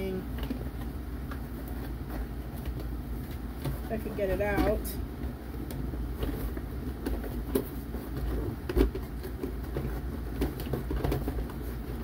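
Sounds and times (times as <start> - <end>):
plastic and cardboard packaging rustling: 0.0 - 12.0
steady low hum: 0.0 - 12.0.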